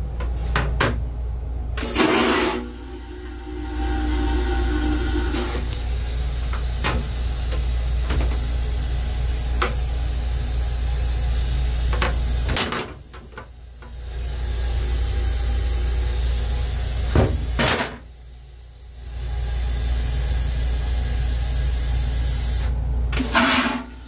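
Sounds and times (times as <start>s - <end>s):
train hum and hiss: 0.0s - 24.0s.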